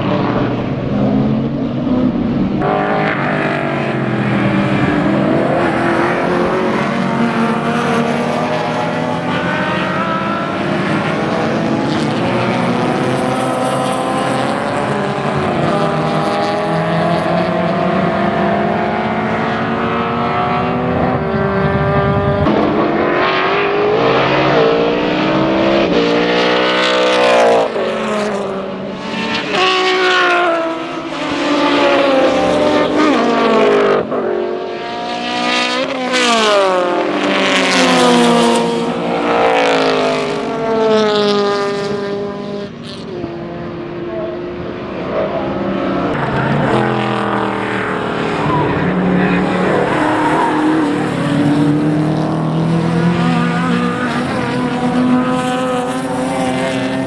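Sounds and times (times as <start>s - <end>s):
race car engines at high revs: 0.0s - 57.0s.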